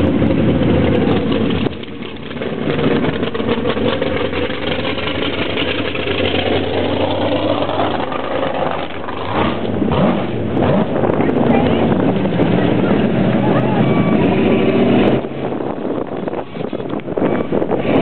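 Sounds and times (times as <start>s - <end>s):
mud buggy engine running: 0.0s - 18.0s.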